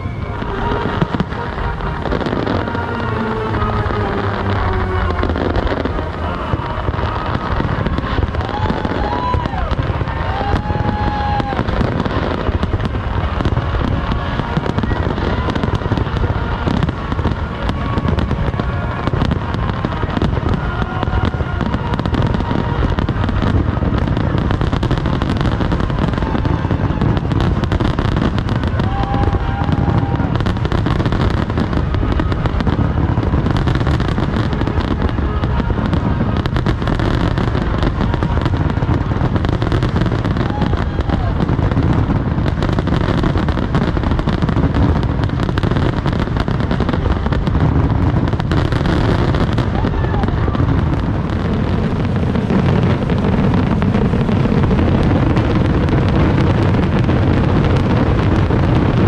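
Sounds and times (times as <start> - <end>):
fireworks booming and crackling: 0.0 - 59.0.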